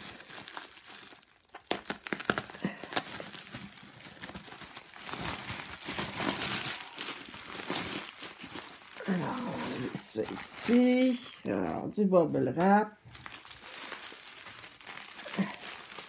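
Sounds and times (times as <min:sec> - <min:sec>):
bubble wrap crinkling and rustling: 0:00.0 - 0:11.8, 0:12.6 - 0:16.0.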